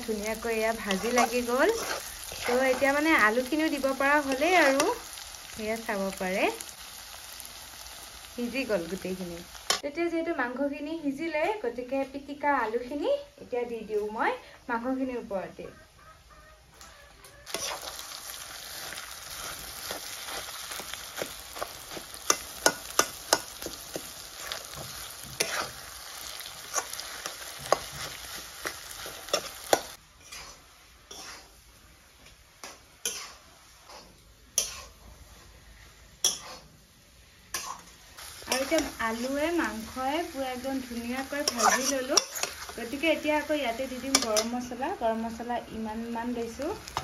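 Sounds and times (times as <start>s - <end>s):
food sizzling in a pan: 0.0s - 10.6s, 17.3s - 47.0s.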